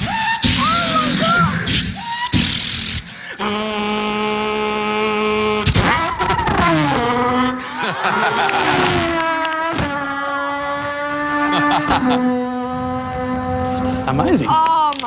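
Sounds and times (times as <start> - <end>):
man imitating racing car engine: 0.0 - 14.6.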